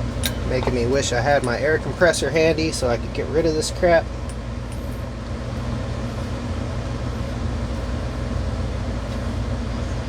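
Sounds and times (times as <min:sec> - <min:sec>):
air conditioner hum: 0:00.0 - 0:10.0
fan hiss: 0:00.0 - 0:10.0.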